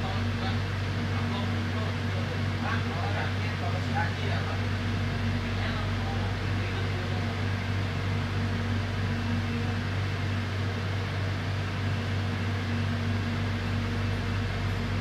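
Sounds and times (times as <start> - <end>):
train air conditioning hum: 0.0 - 15.0.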